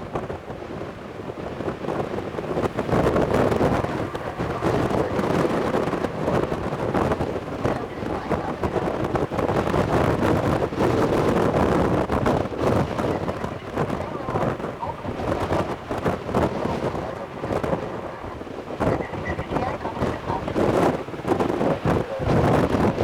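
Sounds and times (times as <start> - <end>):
wind buffeting microphone: 0.0 - 23.0
jet engines roaring: 2.3 - 23.0.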